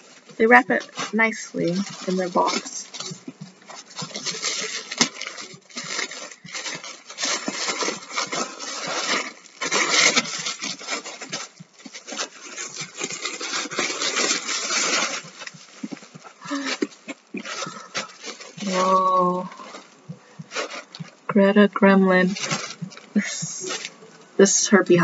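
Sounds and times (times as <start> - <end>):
paper wrapping rustling and tearing: 0.0 - 25.0.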